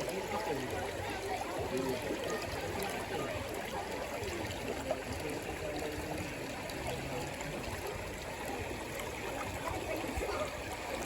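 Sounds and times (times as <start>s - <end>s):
river water gurgling over stones: 0.0s - 11.0s.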